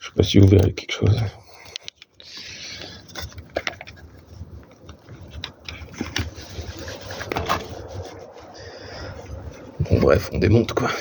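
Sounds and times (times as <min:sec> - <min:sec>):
rustling: 0:02.1 - 0:11.0.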